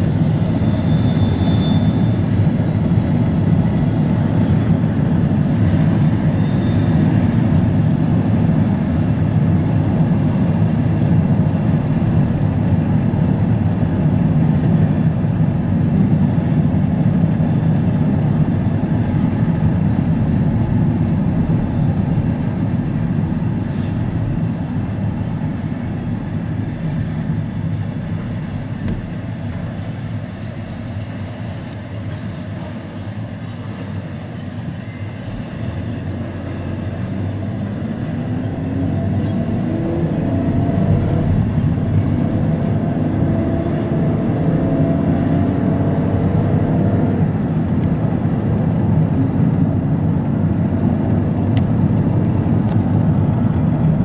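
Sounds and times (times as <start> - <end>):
freight train rolling: 0.0 - 43.5
car driving rumble: 0.0 - 54.0.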